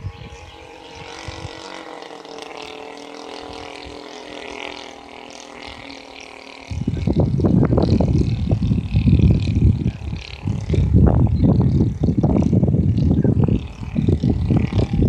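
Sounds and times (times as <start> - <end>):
model airplane motor drone: 0.0 - 15.0.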